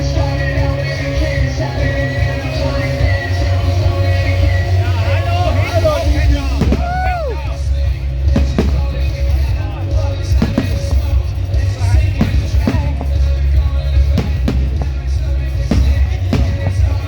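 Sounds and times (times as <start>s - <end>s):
loud music with heavy bass: 0.0s - 17.0s
firework bangs: 1.4s - 17.0s.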